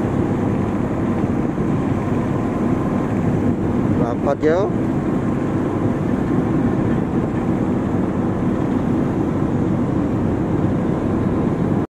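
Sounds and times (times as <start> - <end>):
boat engine droning: 0.0 - 11.9.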